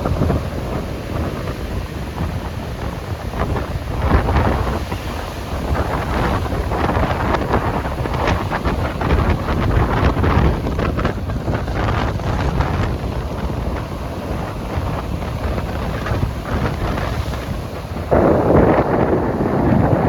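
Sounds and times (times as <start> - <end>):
gusty wind buffeting microphone: 0.0 - 20.0
sea surf: 0.0 - 20.0.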